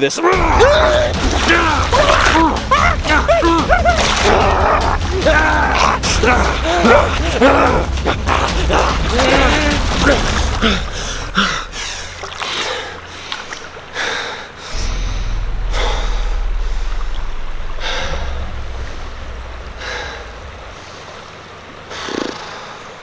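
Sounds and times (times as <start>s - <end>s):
steady low rumble: 0.3s - 22.7s.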